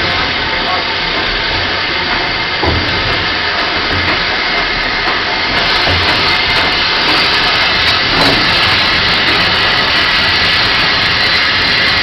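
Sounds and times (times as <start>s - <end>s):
loud hiss of steam: 0.0s - 12.0s.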